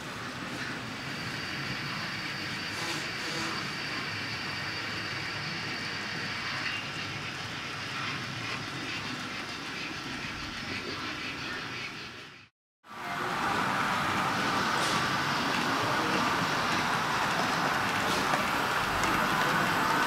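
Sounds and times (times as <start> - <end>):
model train motors whirring: 0.0 - 12.3, 13.0 - 20.0.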